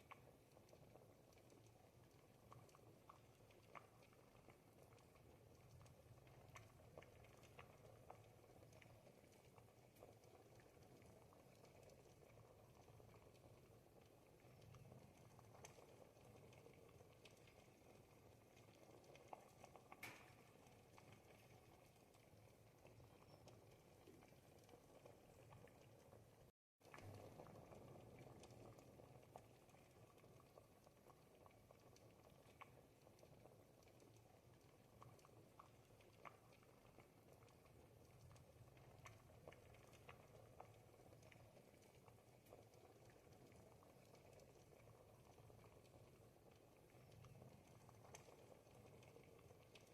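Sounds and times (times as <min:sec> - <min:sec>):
soup bubbling in a pot: 0:00.0 - 0:49.9.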